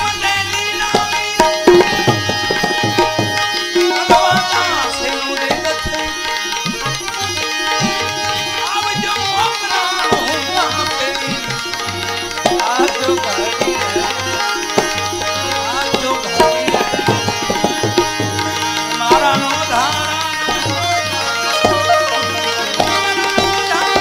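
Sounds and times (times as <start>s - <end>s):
tabla drumming: 0.0s - 24.0s
gliding melody line: 0.6s - 24.0s.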